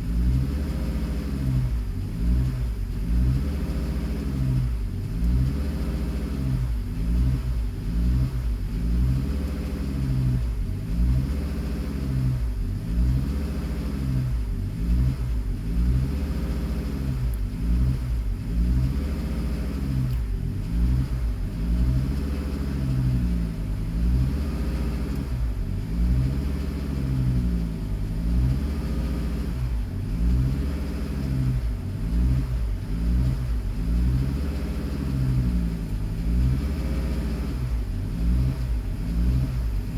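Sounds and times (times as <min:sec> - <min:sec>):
car engine hunting idle: 0:00.0 - 0:39.9.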